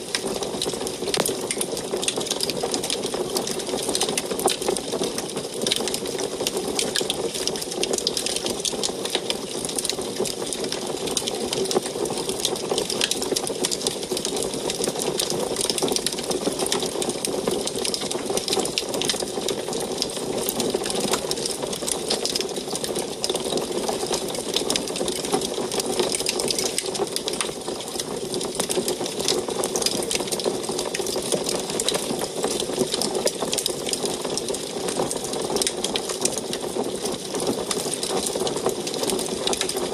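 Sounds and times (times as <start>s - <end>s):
fire crackling and popping: 0.0s - 39.9s
steady rushing of fire: 0.0s - 39.9s.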